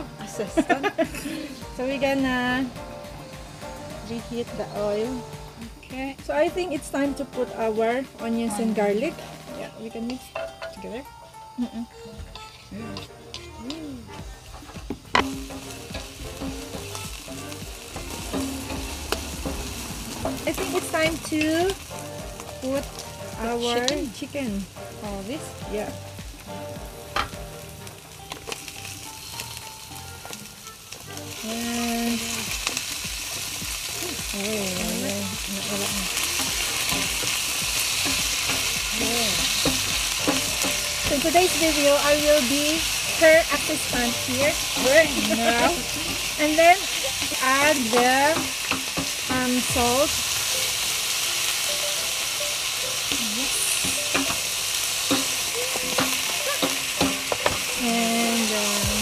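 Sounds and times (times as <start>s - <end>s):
chicken sizzling in hot oil: 0.0s - 59.0s.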